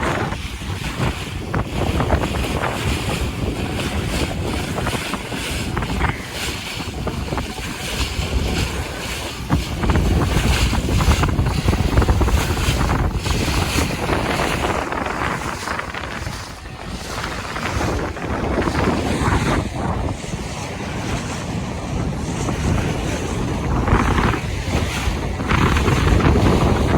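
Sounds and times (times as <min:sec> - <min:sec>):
water rushing along hull: 0:00.0 - 0:26.9
wind buffeting microphone: 0:00.0 - 0:26.9.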